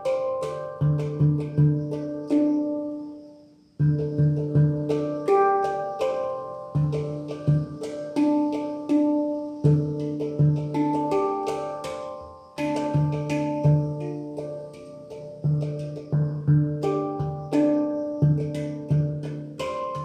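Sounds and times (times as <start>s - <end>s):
handpan melody: 0.0s - 20.0s.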